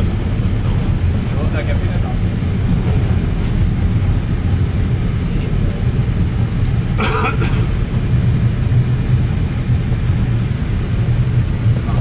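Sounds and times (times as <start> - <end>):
aircraft cockpit low rumble: 0.0 - 12.0.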